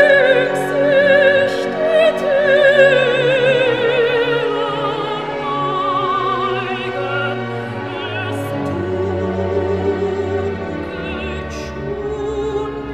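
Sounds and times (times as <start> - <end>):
operatic voice singing: 0.0 - 12.9
orchestral accompaniment: 0.0 - 12.9.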